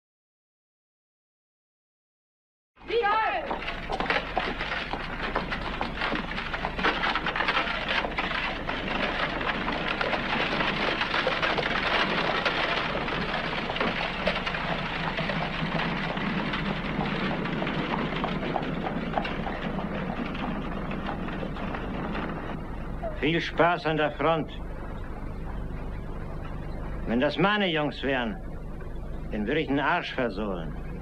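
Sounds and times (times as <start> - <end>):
cart wheels rattling on gravel: 2.8 - 31.0
steady low hum: 2.8 - 31.0.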